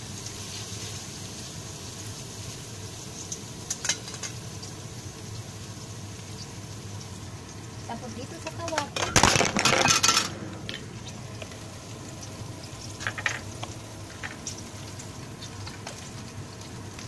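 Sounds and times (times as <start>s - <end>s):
oil sizzling faintly: 0.0s - 17.0s.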